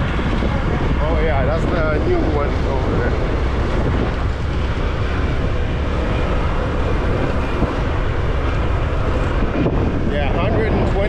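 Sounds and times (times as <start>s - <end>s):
motorbike engine rumble: 0.0s - 11.0s
wind on microphone: 0.0s - 11.0s.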